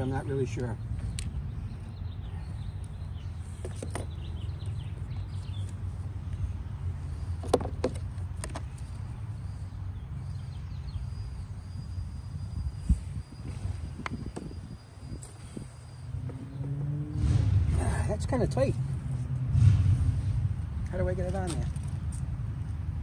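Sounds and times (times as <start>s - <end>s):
birds chirping: 0.0s - 19.4s.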